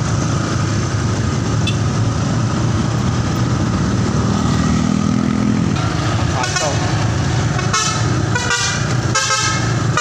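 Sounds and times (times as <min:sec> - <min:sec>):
bus diesel engine running: 0:00.0 - 0:10.0
traffic noise: 0:00.0 - 0:10.0.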